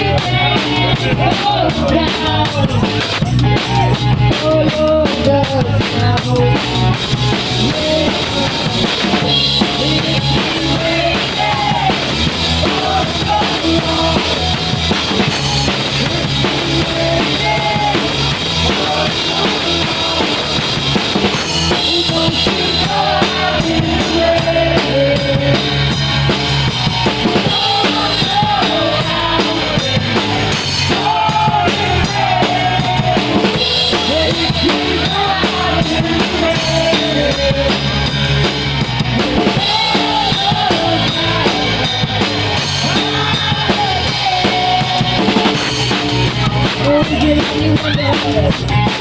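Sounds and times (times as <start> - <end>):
bass drum: 0.0 - 49.0
rock band playing: 0.0 - 49.0.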